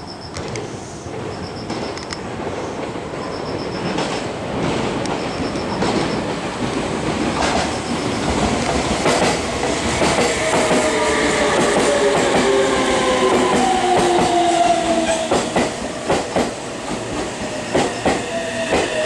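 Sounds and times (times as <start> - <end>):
train wheels clacking over rail joints: 2.8 - 19.0.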